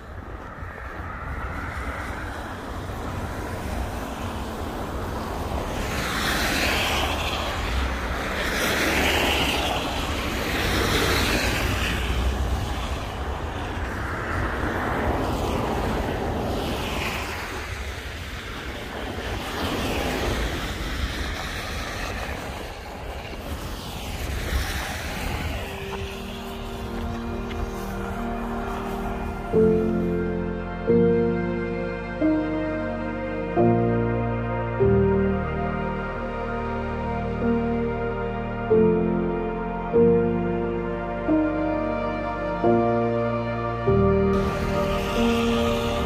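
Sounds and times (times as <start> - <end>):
cars driving past: 0.0 - 46.0
steady low traffic rumble: 0.0 - 46.0.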